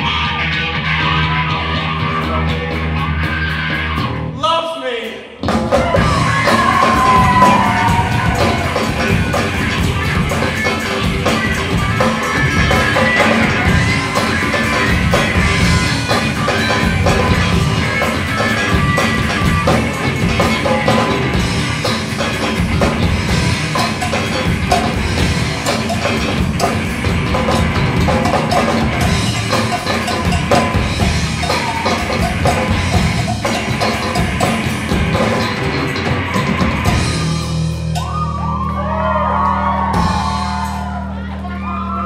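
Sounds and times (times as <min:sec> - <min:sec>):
drum kit: 0:00.0 - 0:42.0
live rock band playing: 0:00.0 - 0:42.0.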